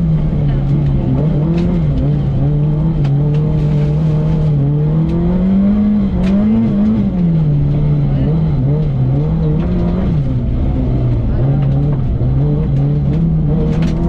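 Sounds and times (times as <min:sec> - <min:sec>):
car engine revving inside cabin: 0:00.0 - 0:14.0.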